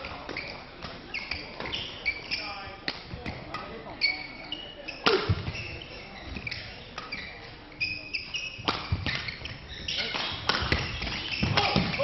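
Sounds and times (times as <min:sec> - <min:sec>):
shoes squeaking on court floor: 0:00.0 - 0:12.0.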